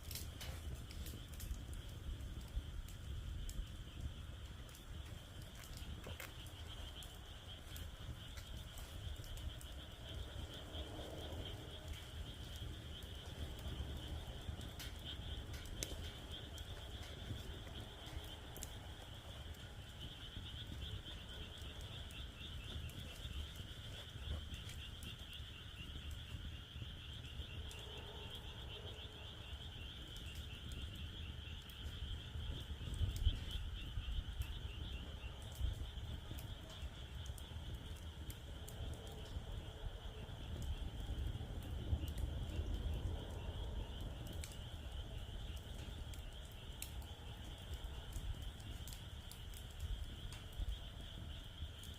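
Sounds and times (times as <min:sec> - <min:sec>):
wood fire crackling: 0:00.0 - 0:51.9
frogs calling: 0:00.5 - 0:51.9.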